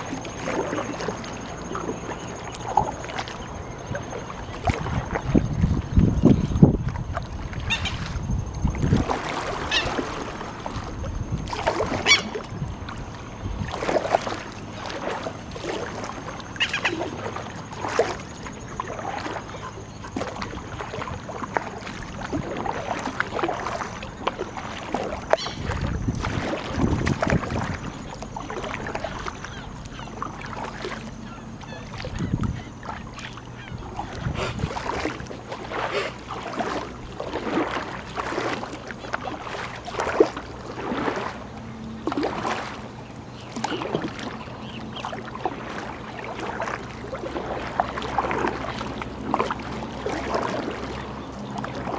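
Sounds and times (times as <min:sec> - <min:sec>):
paddle splashing in water: 0:00.0 - 0:51.9.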